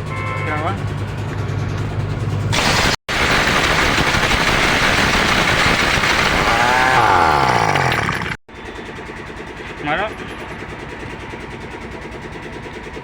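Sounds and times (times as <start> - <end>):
rushing machine noise: 0.0 - 13.0.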